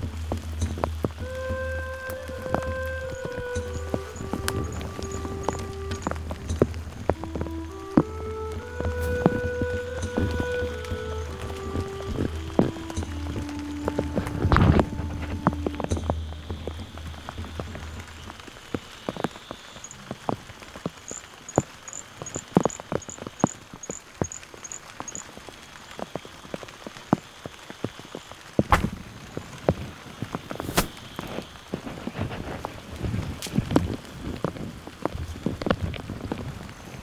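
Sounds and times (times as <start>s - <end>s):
drops ticking: 0.0s - 29.8s
rain on leaves: 0.0s - 37.0s.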